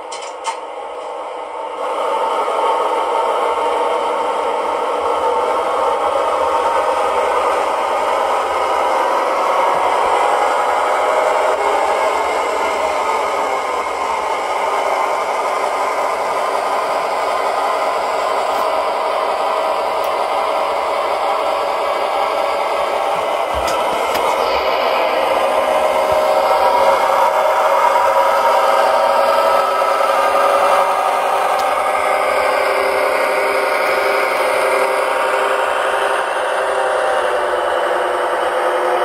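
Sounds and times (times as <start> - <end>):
model locomotive whirring and rattling: 0.0 - 39.0.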